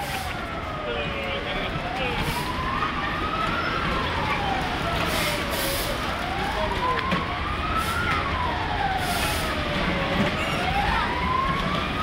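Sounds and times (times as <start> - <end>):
siren wailing: 0.2 - 12.0.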